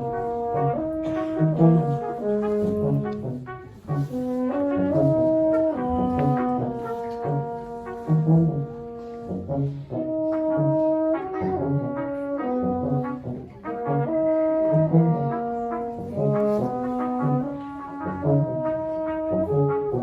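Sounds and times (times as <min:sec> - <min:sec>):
brass quartet playing: 0:00.0 - 0:20.0.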